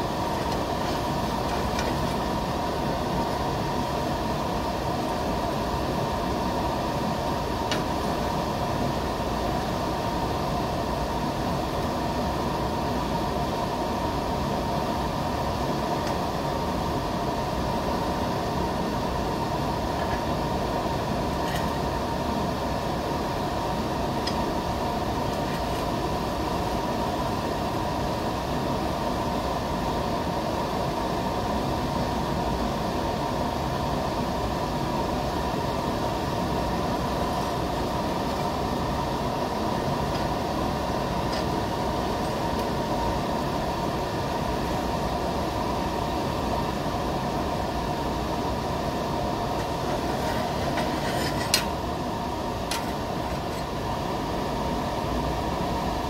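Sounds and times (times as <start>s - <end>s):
faint steady whine: 0.0s - 56.0s
workshop machinery humming: 0.0s - 56.0s.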